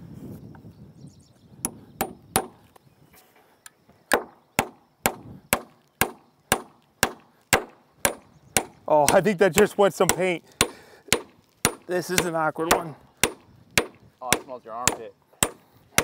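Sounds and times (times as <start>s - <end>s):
hammer blows on nails: 1.6s - 2.6s, 4.1s - 16.0s.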